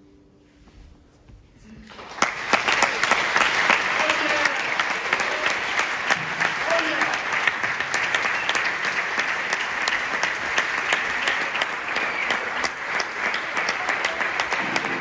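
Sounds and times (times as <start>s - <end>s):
audience applauding: 1.8s - 15.0s.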